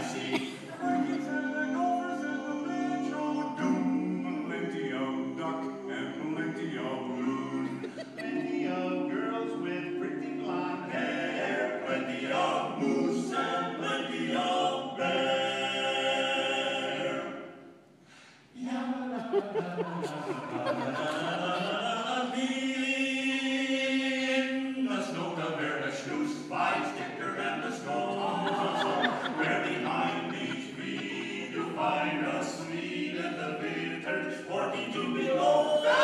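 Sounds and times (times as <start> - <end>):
men singing a cappella harmony: 0.0 - 17.5, 18.6 - 36.0.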